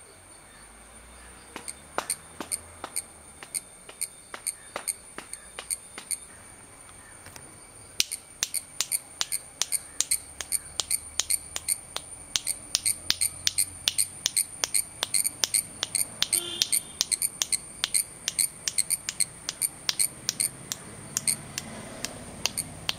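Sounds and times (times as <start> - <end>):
cicada buzzing: 1.1 - 22.9
cicada clicking: 1.1 - 22.9
hand claps: 1.6 - 6.2, 8.0 - 22.9.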